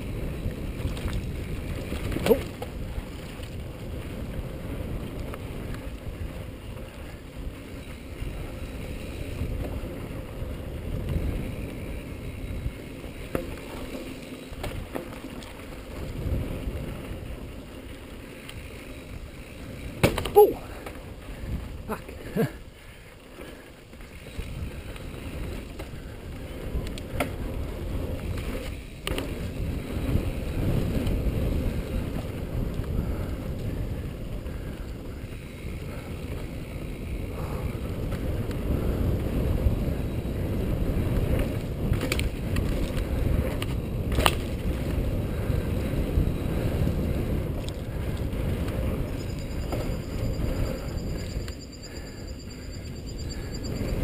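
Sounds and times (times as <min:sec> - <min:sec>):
bike jolting over bumps: 0:00.0 - 0:54.0
bike tyres rolling on dirt: 0:00.0 - 0:54.0.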